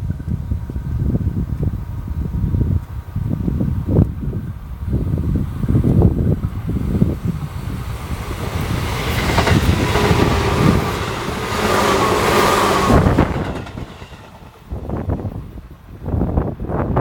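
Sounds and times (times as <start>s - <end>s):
wind buffeting microphone: 0.0s - 17.0s
electric train passing: 0.1s - 17.0s.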